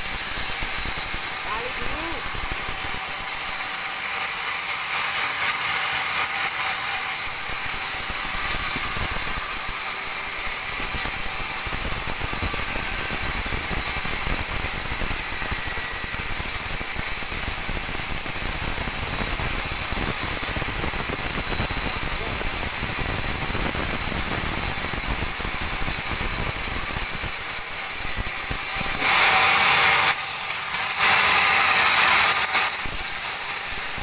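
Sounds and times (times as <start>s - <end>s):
band saw cutting log: 0.0s - 34.0s
fast mechanical rattle: 0.0s - 34.0s.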